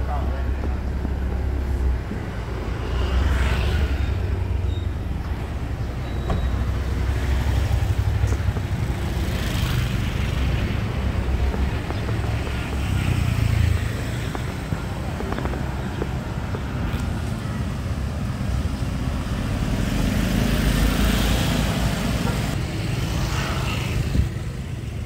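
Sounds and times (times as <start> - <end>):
low traffic rumble: 0.0 - 25.0
vehicles passing close by: 0.0 - 25.0.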